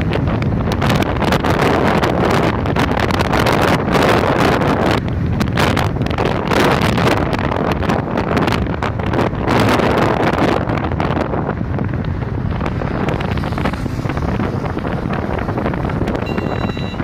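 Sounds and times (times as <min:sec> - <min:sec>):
road and traffic noise: 0:00.0 - 0:17.0
wind buffeting microphone: 0:00.0 - 0:17.0.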